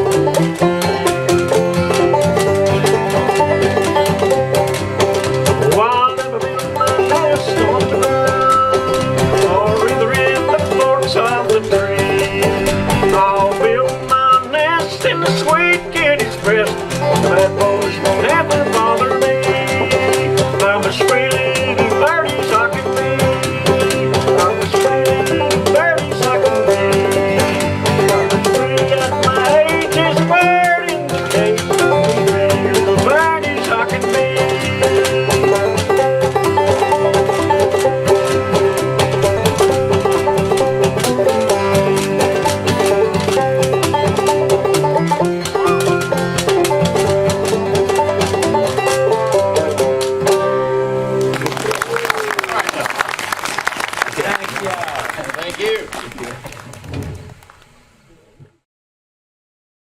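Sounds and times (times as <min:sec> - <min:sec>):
banjo plucking: 0:00.0 - 0:51.8
acoustic guitar bass line: 0:00.0 - 0:58.6.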